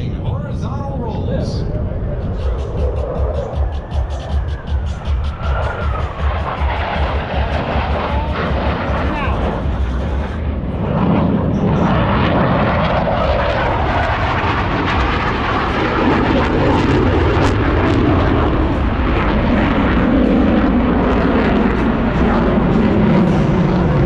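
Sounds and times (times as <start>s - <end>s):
jet low pass roar: 0.0s - 24.0s.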